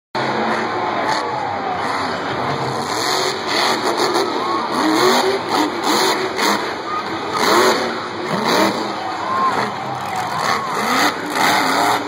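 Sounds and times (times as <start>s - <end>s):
crowd cheering: 0.2s - 12.0s
monster truck engine revving: 0.2s - 12.0s.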